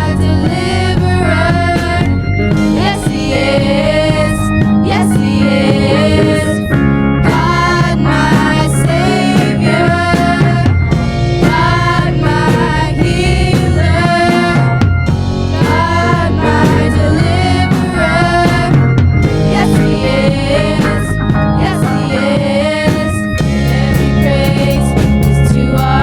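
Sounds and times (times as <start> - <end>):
drum kit beat: 0.0 - 26.0
worship song singing: 0.0 - 26.0.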